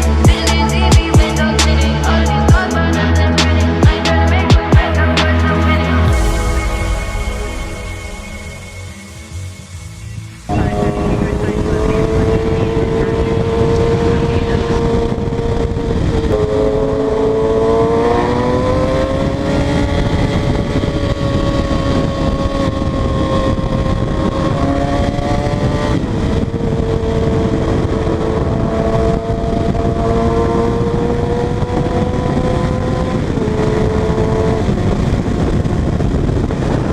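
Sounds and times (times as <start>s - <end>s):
motorcycle engine revving high: 0.0s - 36.9s.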